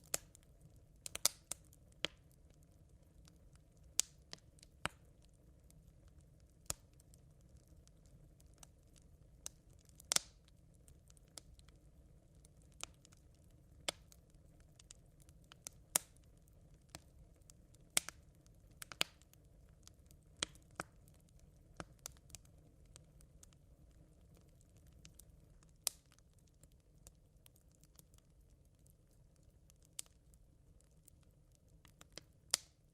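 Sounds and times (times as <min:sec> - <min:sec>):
campfire embers crackling: 0:00.0 - 0:32.9
faint low hiss: 0:00.0 - 0:32.9.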